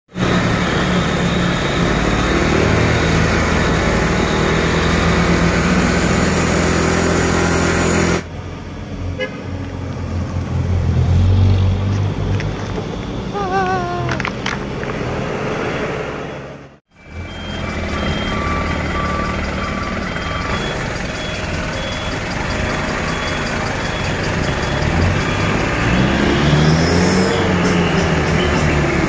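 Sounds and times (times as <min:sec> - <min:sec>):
truck engine humming: 0:00.1 - 0:10.7, 0:11.8 - 0:29.0
loud truck on road: 0:00.1 - 0:29.0.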